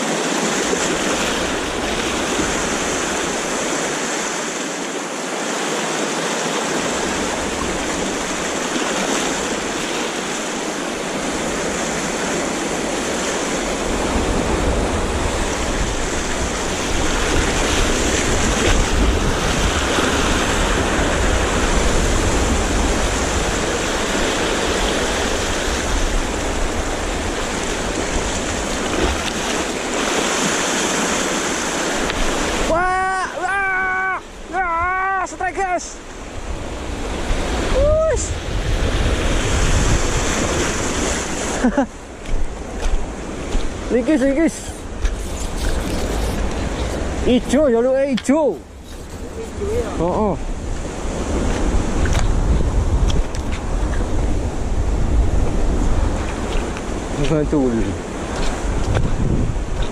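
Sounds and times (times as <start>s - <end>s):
sea waves washing on shore: 0.0s - 59.9s
wind rumble on microphone: 6.9s - 32.9s, 36.1s - 47.8s, 48.6s - 59.9s.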